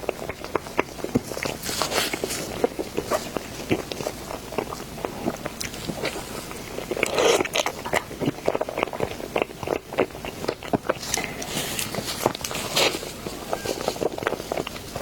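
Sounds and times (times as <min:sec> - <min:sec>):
person chewing cake: 0:00.0 - 0:15.0.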